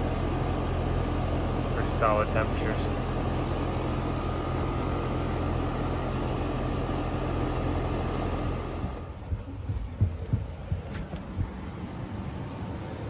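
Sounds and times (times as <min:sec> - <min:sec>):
compressor hum: 0:00.0 - 0:13.0
condenser fan rushing air: 0:00.0 - 0:13.0.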